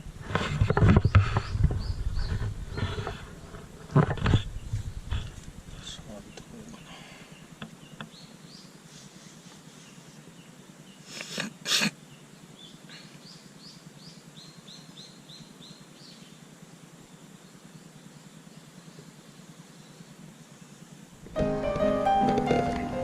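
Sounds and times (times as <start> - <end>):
birds chirping: 0.3 - 23.0.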